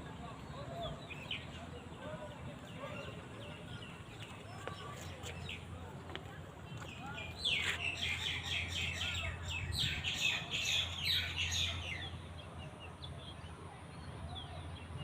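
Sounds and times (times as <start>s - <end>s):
birds chirping: 0.1s - 13.4s.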